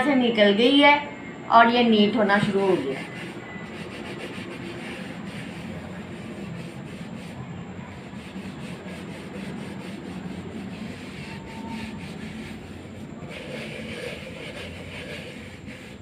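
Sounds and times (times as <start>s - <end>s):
sponge scrubbing a plastic mug: 2.5s - 16.0s.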